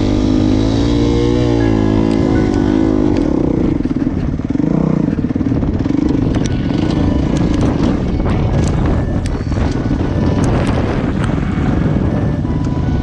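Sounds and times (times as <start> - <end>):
dirt bike engine revving: 0.0 - 13.0
sharp clicks and clatter: 2.0 - 12.9.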